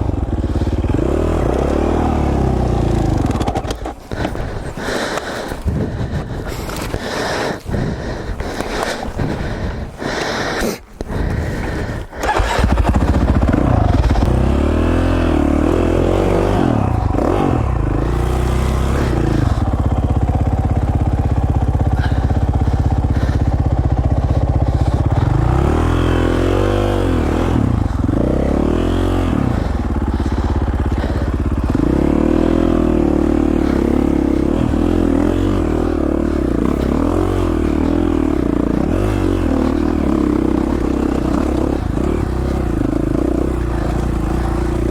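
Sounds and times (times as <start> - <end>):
motorcycle engine revving: 0.0 - 10.5, 11.1 - 44.9.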